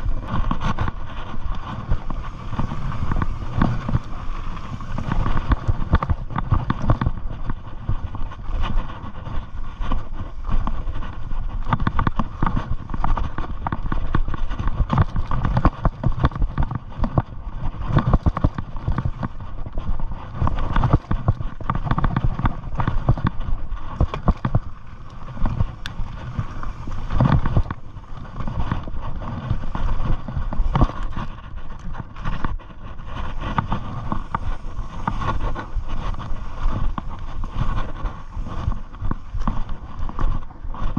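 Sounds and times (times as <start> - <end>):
bike knocking and rattling: 0.0 - 40.9.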